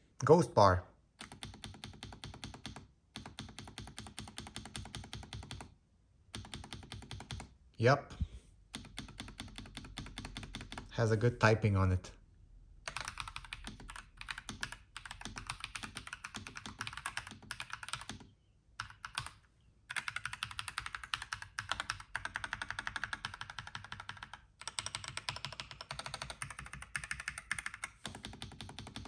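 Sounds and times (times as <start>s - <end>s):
mechanical keyboard typing: 1.2s - 7.6s, 8.7s - 10.9s, 12.8s - 29.0s.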